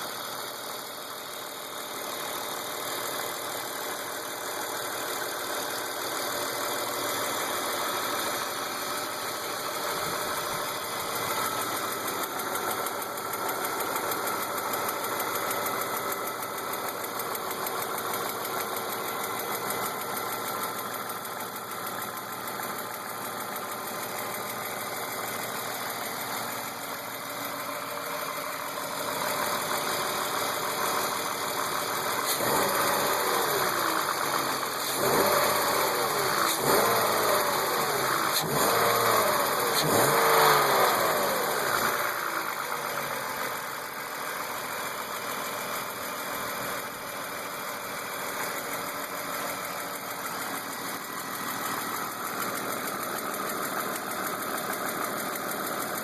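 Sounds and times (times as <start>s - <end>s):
car engine idling: 0.0s - 56.0s
engine ticking: 0.2s - 56.0s.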